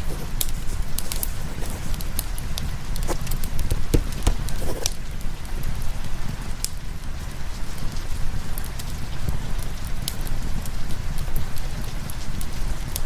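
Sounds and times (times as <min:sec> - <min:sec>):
fireplace logs crackling and popping: 0:00.0 - 0:13.0
rain: 0:00.0 - 0:13.0.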